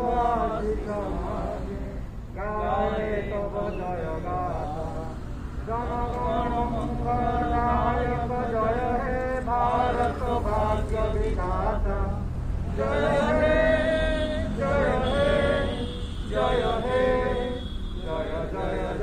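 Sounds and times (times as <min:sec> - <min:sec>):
men singing in unison: 0:00.0 - 0:19.0.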